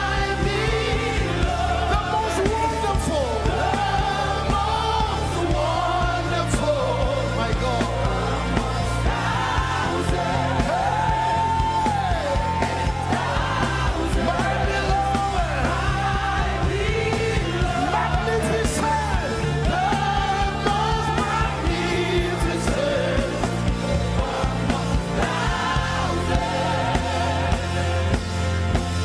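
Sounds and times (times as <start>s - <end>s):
band playing sustained low chords: 0.0s - 29.0s.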